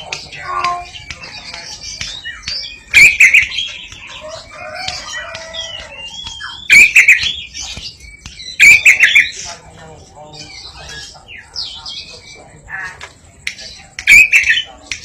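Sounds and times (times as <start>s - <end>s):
bird calling harsh notes: 0.0s - 15.0s
soft wavering bird calls: 0.0s - 15.0s.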